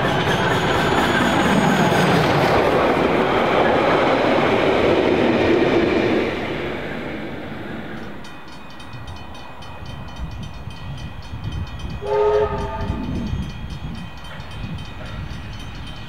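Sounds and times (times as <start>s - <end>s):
steam locomotive exhaust beating: 0.0s - 16.0s
train rumbling on rails: 0.0s - 16.0s.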